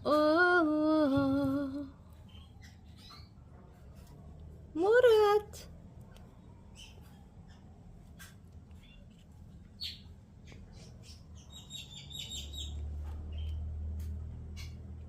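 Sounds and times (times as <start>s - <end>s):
steady low hum: 0.0s - 15.0s
pet birds chirping: 1.9s - 15.0s.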